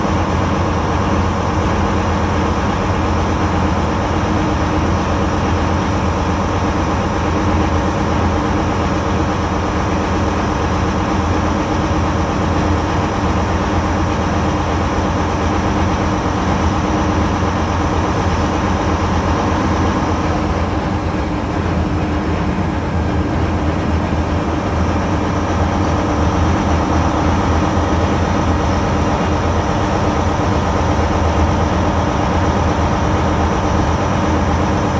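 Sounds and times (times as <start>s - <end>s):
diesel train engine droning: 0.0s - 34.9s.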